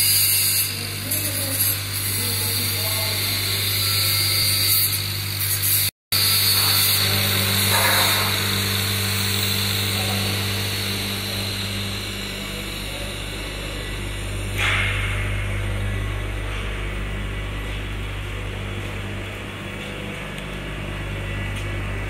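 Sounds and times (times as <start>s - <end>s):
fan motors humming: 0.0s - 22.0s.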